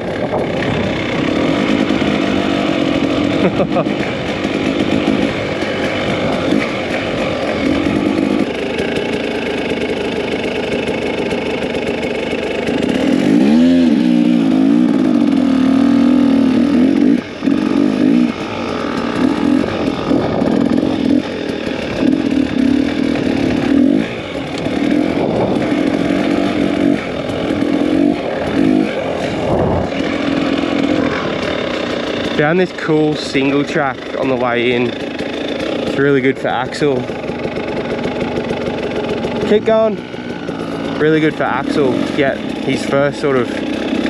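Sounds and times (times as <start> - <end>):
two-stroke dirt bike engine: 0.0 - 44.0.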